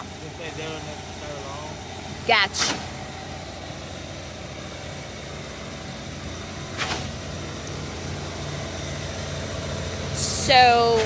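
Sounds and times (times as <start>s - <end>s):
diesel truck engine humming: 0.0s - 11.0s.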